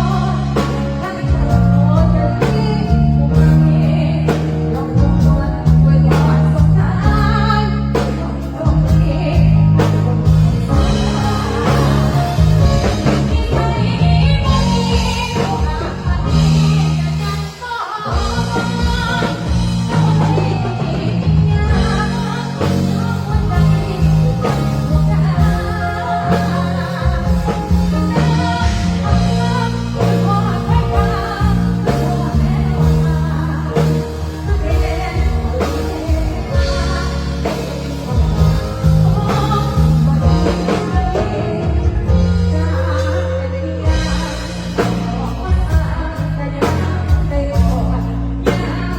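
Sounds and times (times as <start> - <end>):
live band playing: 0.0 - 48.9
woman singing: 0.0 - 48.9.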